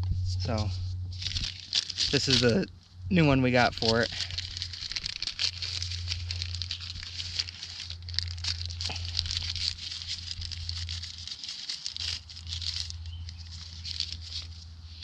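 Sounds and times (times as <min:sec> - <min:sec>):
low hum: 0:00.0 - 0:15.0
plastic packaging crinkling: 0:00.5 - 0:02.7, 0:03.3 - 0:15.0.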